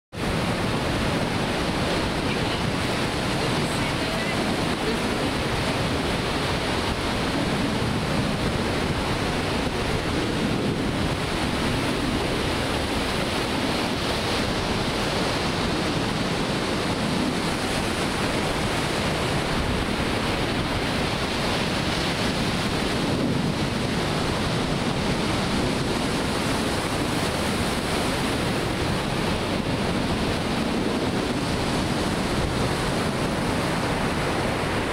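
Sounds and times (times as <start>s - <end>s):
ocean surf breaking on beach: 0.1s - 34.9s.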